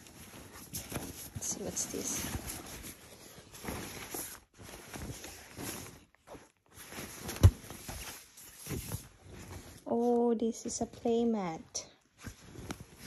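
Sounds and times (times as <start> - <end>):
fabric rustling and handling: 0.0 - 13.0.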